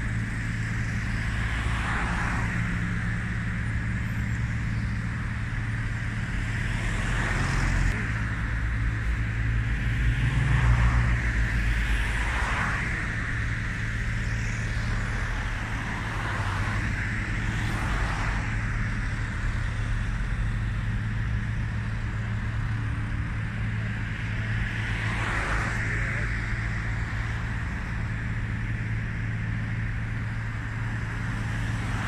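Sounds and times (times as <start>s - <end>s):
cars passing: 0.0s - 32.0s
low traffic rumble: 0.0s - 32.0s.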